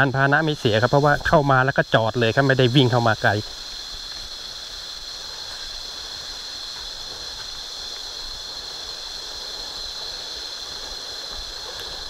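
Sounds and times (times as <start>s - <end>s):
high-pitched insect drone: 0.0s - 12.0s
stream water flowing: 0.0s - 12.0s.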